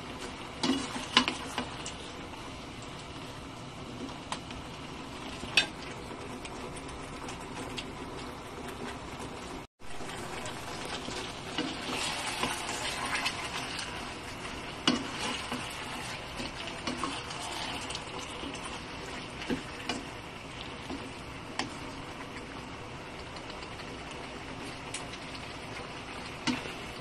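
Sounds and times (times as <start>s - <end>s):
chicken wings sizzling in sauce: 0.0s - 6.0s, 9.9s - 27.0s.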